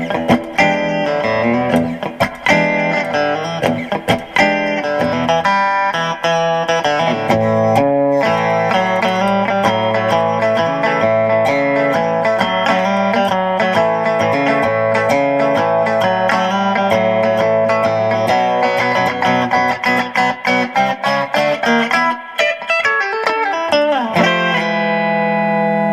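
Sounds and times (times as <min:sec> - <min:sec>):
electric guitar through amplifier: 0:00.0 - 0:25.9.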